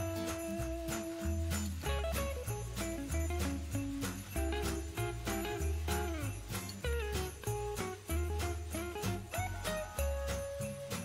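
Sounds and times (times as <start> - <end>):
jingly christmas tune: 0.0 - 11.0
sleigh bells shaking: 0.0 - 11.0.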